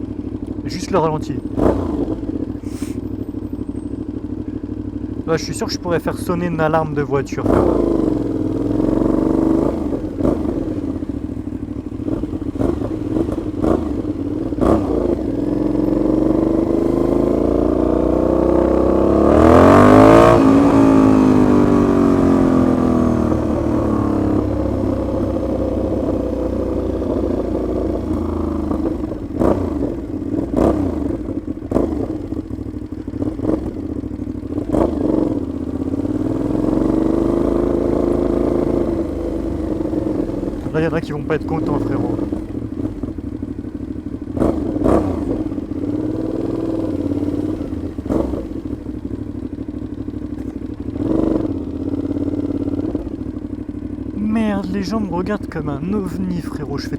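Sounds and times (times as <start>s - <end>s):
loud motorcycle engine revving: 0.7s - 3.1s, 5.2s - 56.3s.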